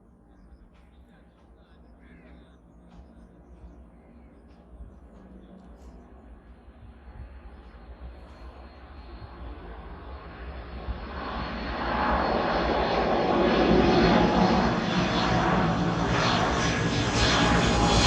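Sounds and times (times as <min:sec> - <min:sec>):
airliner engines rushing: 0:00.0 - 0:18.0
thin steady engine whine: 0:00.2 - 0:18.0.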